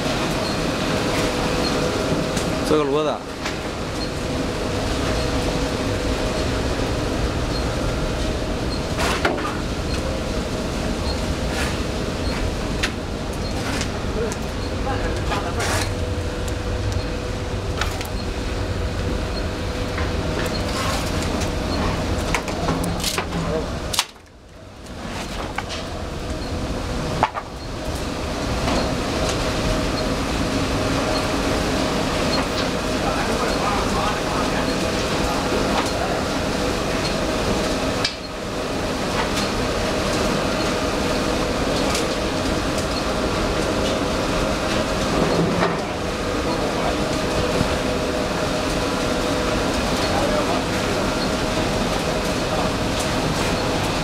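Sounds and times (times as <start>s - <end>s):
machinery humming: 0.0s - 54.0s
presses and conveyors running: 0.0s - 54.0s.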